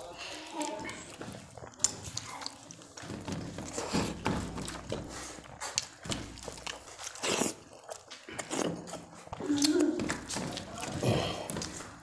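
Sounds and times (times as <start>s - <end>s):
people chewing: 0.0s - 12.0s.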